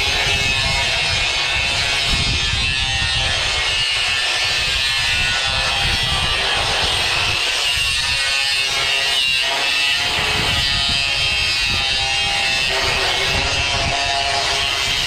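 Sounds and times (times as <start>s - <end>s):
power tool buzzing: 0.0s - 15.0s.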